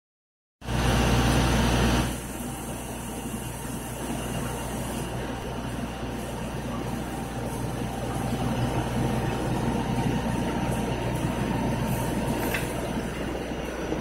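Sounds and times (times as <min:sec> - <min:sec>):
aquarium pumps humming: 0:00.6 - 0:14.0.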